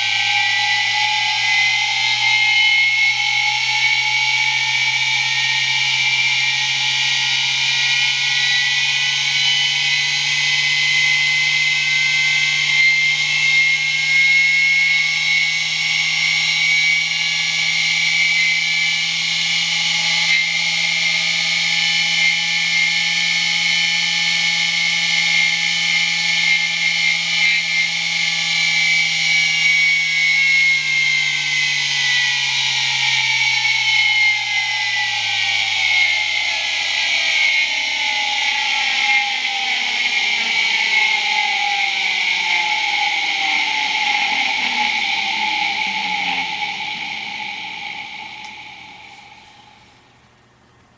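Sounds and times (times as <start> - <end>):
small electric motor whining: 0.0 - 50.3.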